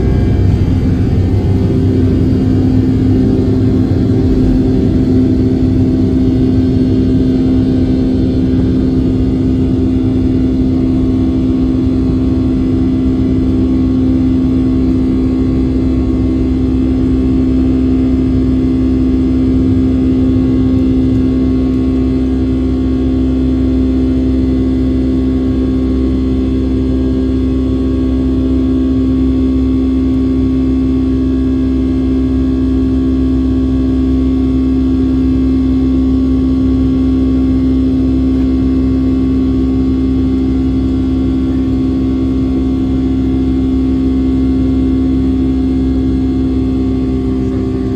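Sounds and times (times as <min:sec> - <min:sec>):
jet engine cabin drone: 0:00.0 - 0:47.9.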